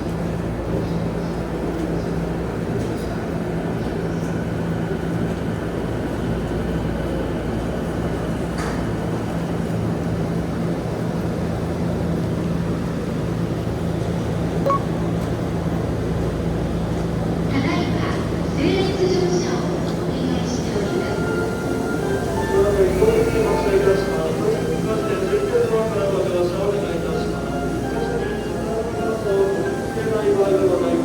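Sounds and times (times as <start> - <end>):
train humming and rumbling: 0.0 - 31.0.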